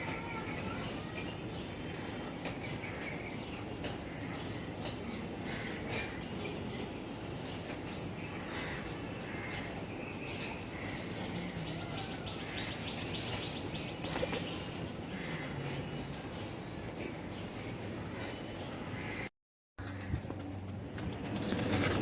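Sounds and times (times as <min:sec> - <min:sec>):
small birds chirping: 0:00.0 - 0:20.5
steady background noise: 0:00.0 - 0:22.0.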